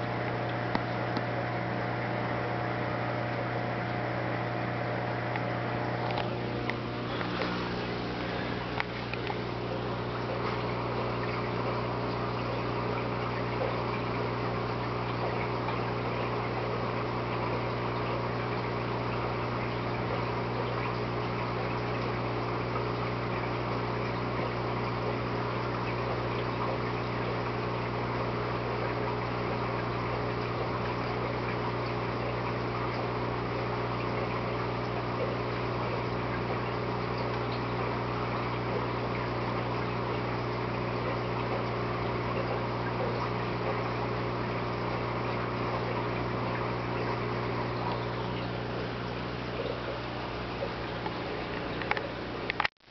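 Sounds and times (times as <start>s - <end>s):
aquarium pump humming: 0.0s - 52.7s
moving water: 0.0s - 52.9s.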